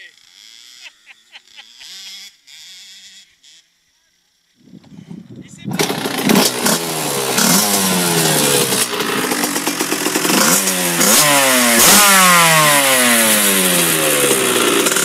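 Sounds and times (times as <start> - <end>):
motocross engine revving: 0.0 - 3.7, 5.6 - 15.0.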